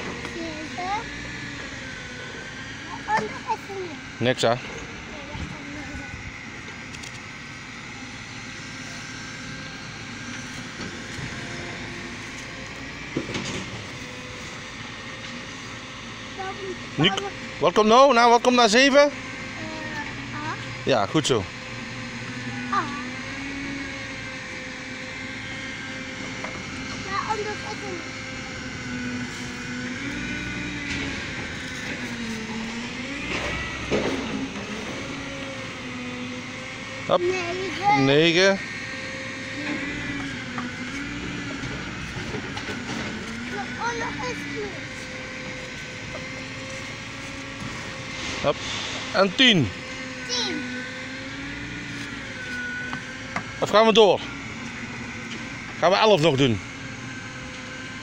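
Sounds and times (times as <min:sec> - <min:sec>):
engine humming: 0:00.0 - 0:58.0
outdoor background noise: 0:00.0 - 0:58.0.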